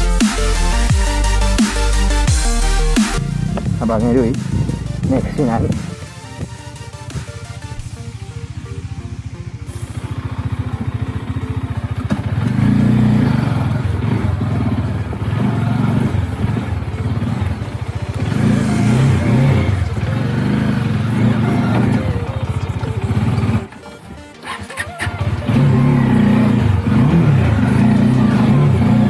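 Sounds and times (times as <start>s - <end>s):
motorcycle engine revving under load: 0.0s - 29.0s.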